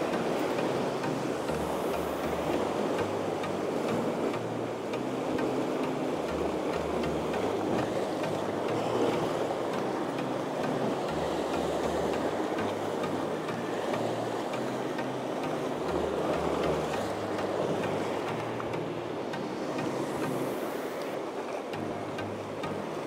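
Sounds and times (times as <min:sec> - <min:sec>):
quiet background music: 0:00.0 - 0:23.0
surf washing against rocks: 0:00.0 - 0:23.0.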